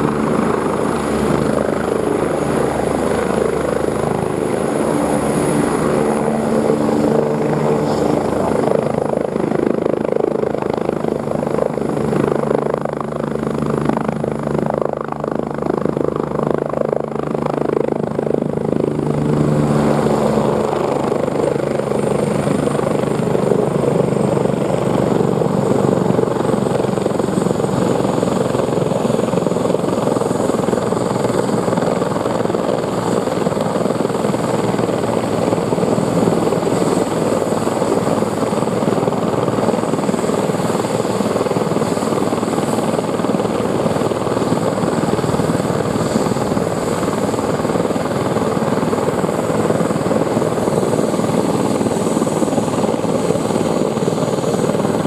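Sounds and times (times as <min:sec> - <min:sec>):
helicopter rotor and engine noise: 0:00.0 - 0:55.0
high turbine whine: 0:00.0 - 0:55.0.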